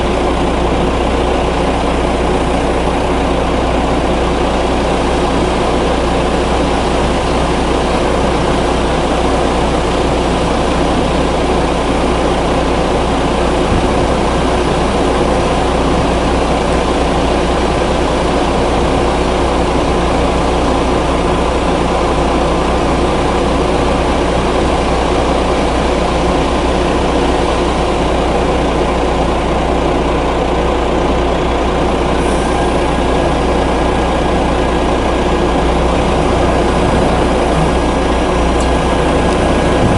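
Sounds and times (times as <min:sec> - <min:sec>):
diesel truck engines droning: 0:00.0 - 0:39.9.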